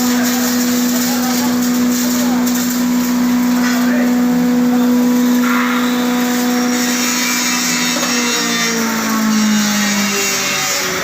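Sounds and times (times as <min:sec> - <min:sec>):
wood chipper grinding: 0:00.0 - 0:11.0.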